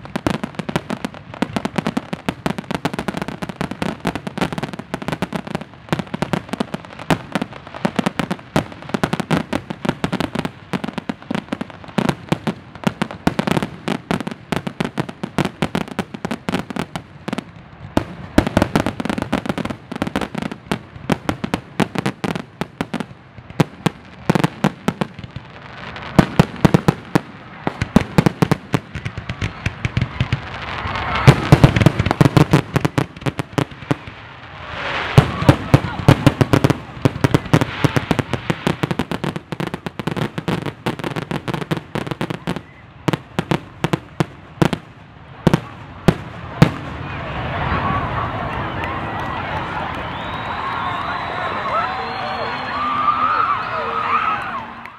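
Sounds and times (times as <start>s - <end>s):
fireworks bursts and bangs: 0.0s - 54.7s.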